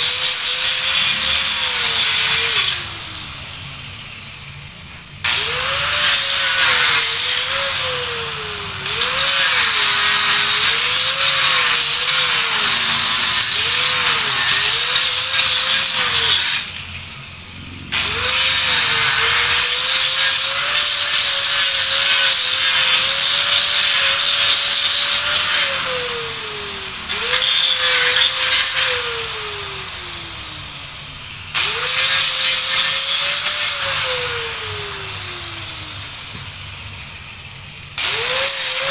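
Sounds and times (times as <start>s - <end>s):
electric grinder grinding: 0.0s - 38.9s
grinder motor winding down: 0.7s - 38.9s.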